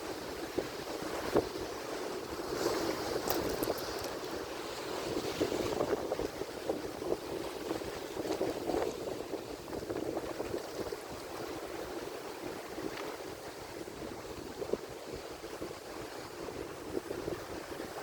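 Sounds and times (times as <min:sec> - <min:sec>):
ocean surf washing ashore: 0:00.0 - 0:18.0.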